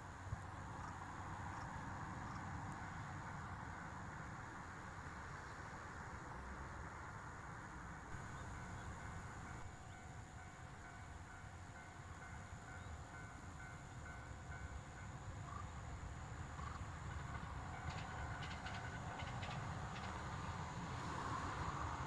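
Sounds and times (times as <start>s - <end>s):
distant train rumble: 0.0s - 22.0s.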